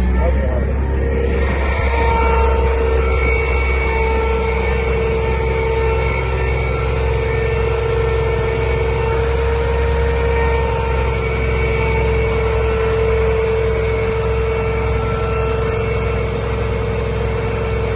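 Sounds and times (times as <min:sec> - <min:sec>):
engine whine: 0:00.0 - 0:17.9.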